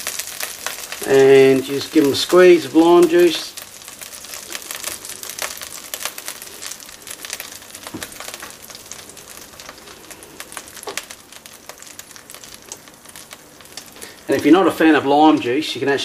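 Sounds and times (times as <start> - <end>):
frying pan sizzling and crackling: 0.0 - 16.0.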